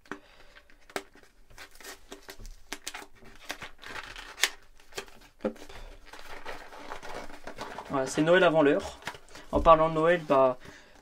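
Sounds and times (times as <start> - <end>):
cardboard rustling and tearing: 0.8 - 10.8.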